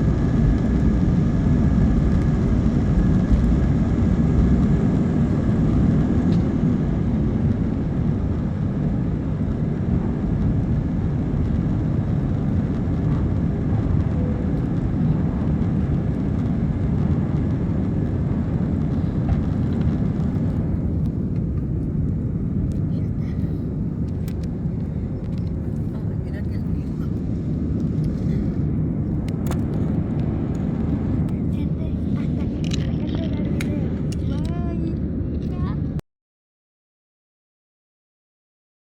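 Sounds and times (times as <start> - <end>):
airliner cabin engine drone: 0.0 - 36.0.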